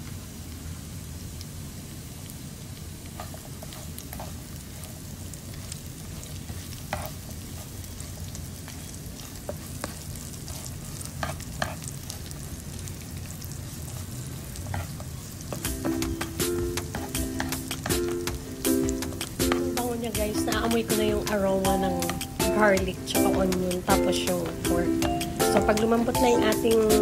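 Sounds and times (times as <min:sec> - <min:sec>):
food sizzling in frying pan: 0:00.0 - 0:27.0
spatula clicking and scraping: 0:03.1 - 0:12.5, 0:13.8 - 0:27.0.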